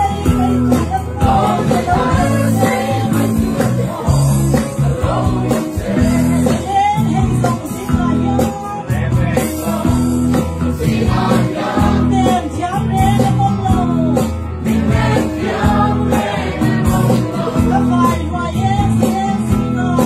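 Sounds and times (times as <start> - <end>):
group of voices singing: 0.0 - 7.4, 9.4 - 12.9, 14.6 - 20.0
instrumental accompaniment: 0.0 - 20.0.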